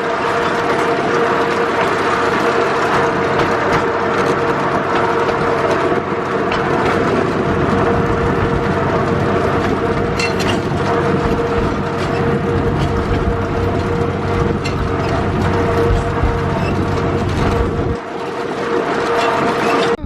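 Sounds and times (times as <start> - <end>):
constant hum: 0.0 - 20.0
vehicle rattling and running: 0.0 - 20.0.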